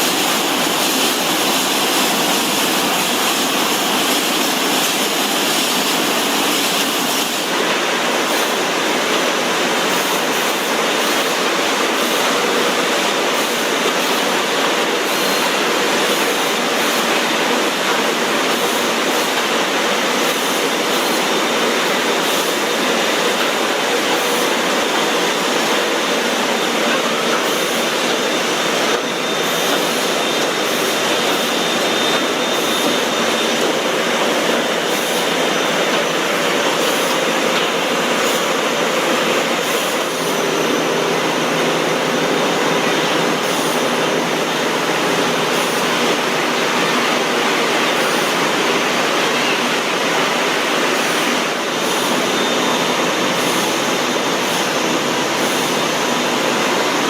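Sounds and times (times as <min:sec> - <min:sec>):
factory machinery running: 0:00.0 - 0:57.0.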